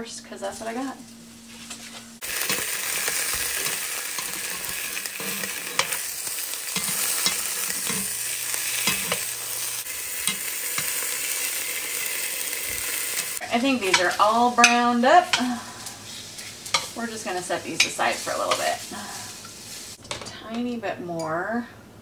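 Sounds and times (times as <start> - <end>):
sausages sizzling: 2.2 - 20.8.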